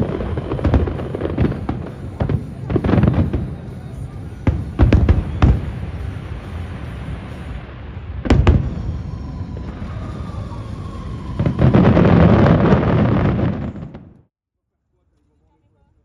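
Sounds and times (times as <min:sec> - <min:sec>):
fireworks bursting and crackling: 0:00.0 - 0:14.3.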